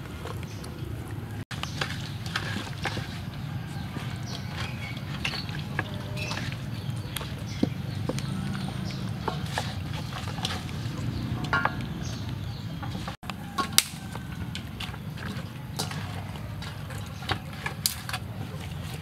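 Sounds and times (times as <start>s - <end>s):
hands squelching raw chicken: 0.0s - 19.0s.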